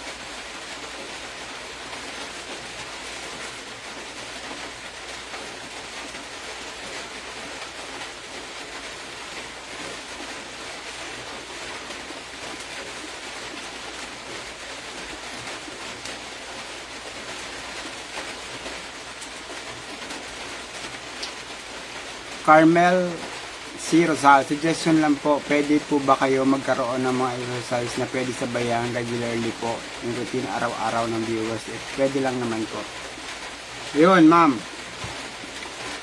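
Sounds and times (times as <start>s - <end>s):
background hiss: 0.0s - 36.0s.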